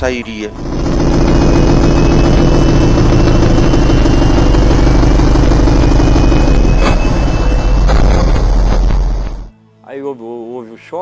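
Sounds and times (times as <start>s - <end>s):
piston aircraft engine running: 0.0s - 9.5s.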